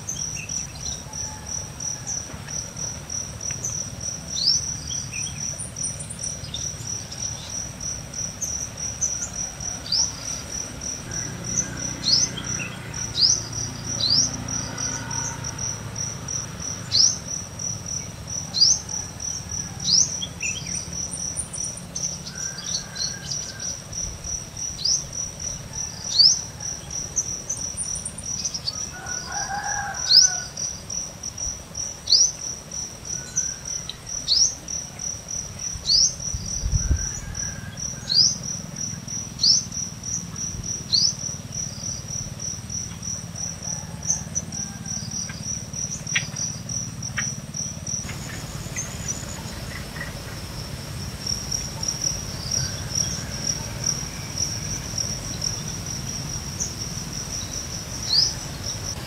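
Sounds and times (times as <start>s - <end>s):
distant bird calls: 0.0s - 31.2s, 31.8s - 59.0s
cricket-like trill: 0.0s - 59.0s.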